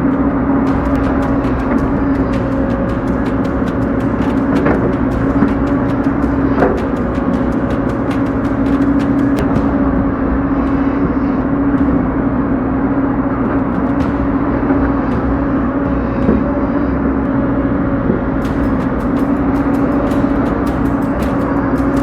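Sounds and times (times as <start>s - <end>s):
sharp clicks and knocks: 0.0s - 17.4s, 18.1s - 22.0s.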